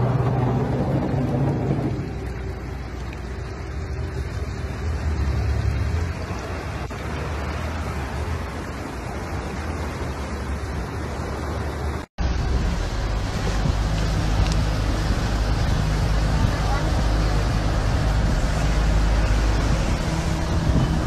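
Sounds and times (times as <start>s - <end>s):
boat engines rumbling: 0.0s - 21.0s
boat wake washing: 0.0s - 21.0s.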